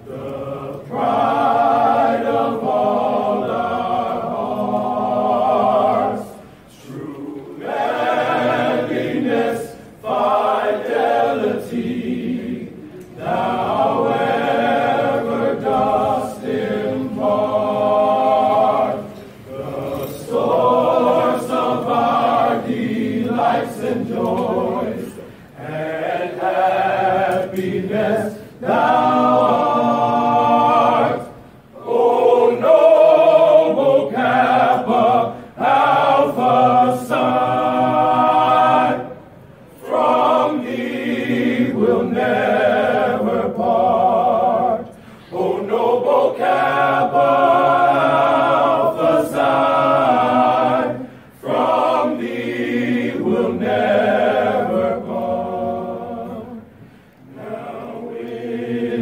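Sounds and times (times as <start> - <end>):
men's chorus singing a hymn: 0.0 - 59.0.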